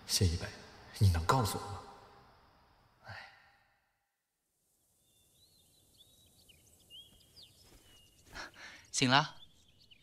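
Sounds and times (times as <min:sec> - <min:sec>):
faint bird chirps: 0:00.0 - 0:10.0
outdoor ambience hiss: 0:00.0 - 0:10.0.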